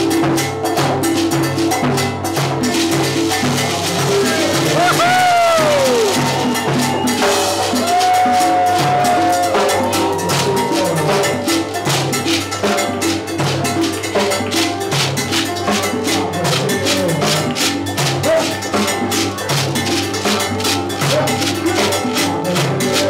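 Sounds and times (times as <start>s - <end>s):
cowbell beating: 0.0s - 23.0s
salsa music: 0.0s - 23.0s.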